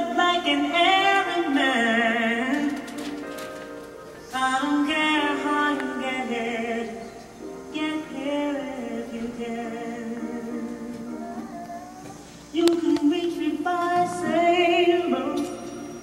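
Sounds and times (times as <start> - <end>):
recorded song with singing: 0.0 - 3.6, 4.2 - 16.0.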